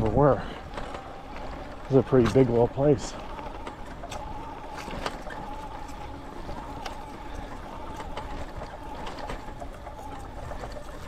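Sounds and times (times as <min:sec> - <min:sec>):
faint clicks: 0:00.0 - 0:11.0
tyre and wind noise: 0:00.0 - 0:11.0.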